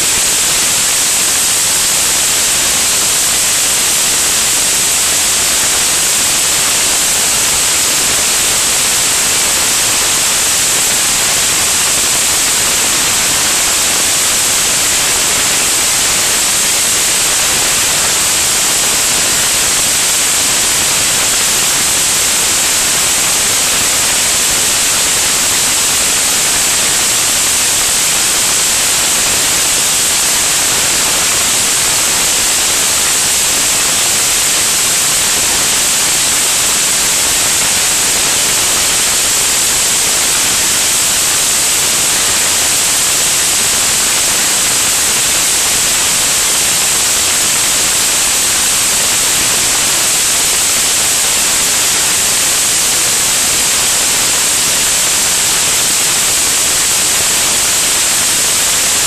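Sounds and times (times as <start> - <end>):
high-pitched air rushing hiss: 0.0 - 59.0.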